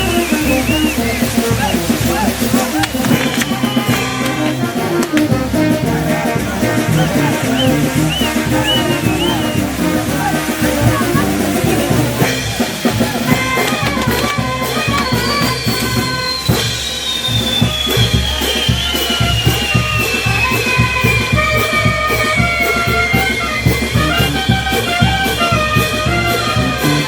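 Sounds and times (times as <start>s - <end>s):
brass band playing: 0.0s - 27.0s
drum kit beat: 0.0s - 27.0s.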